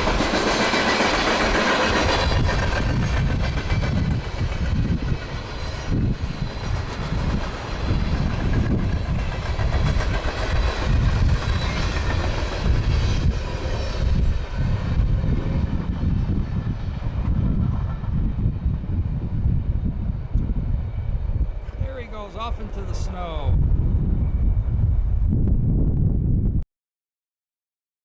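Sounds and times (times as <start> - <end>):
freight train rumbling on rails: 0.0 - 26.6.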